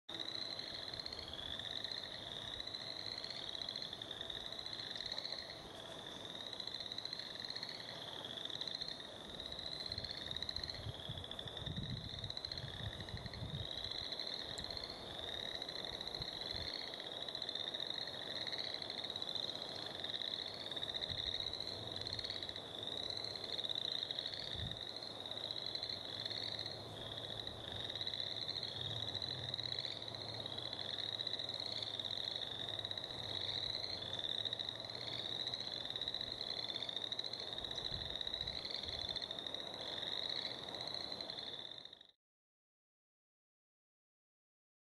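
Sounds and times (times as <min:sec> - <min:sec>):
chorus of frogs calling: 0:00.1 - 0:42.1.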